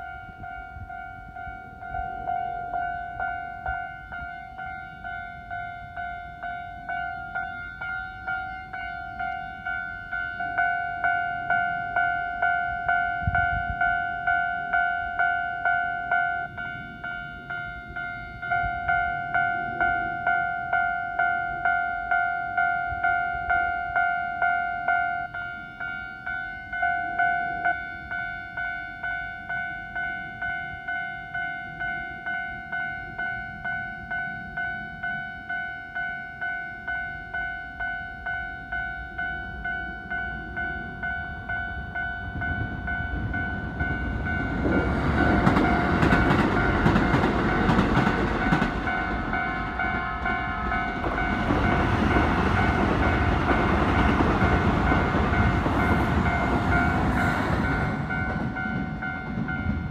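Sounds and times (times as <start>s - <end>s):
level-crossing warning bell: 0.0s - 59.9s.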